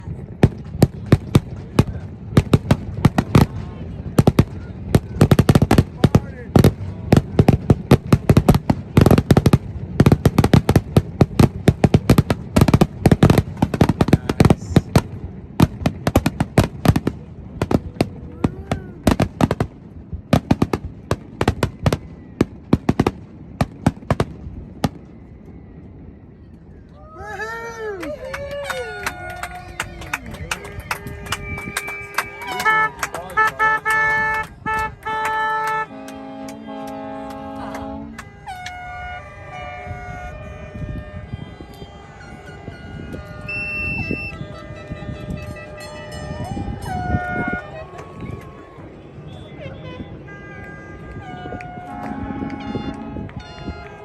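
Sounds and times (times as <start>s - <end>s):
fireworks bangs: 0.0s - 26.1s, 28.5s - 42.1s, 43.0s - 54.0s.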